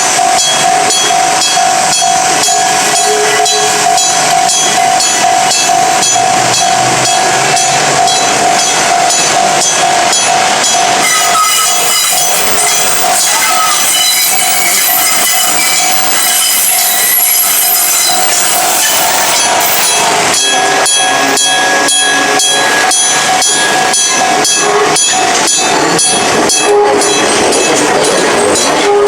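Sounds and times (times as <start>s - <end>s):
crossing warning bell ringing: 0.0s - 29.0s
train rushing past: 0.0s - 29.0s.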